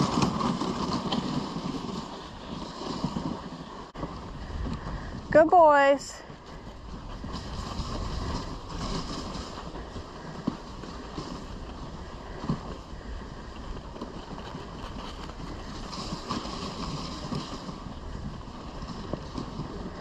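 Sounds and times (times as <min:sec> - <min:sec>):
sled runners hissing on snow: 0:00.0 - 0:20.0
wind on microphone: 0:00.0 - 0:20.0.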